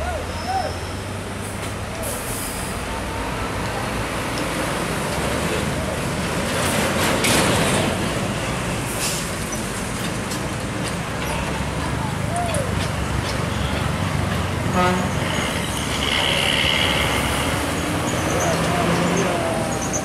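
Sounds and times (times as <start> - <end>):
heavy trucks passing: 0.0 - 20.0.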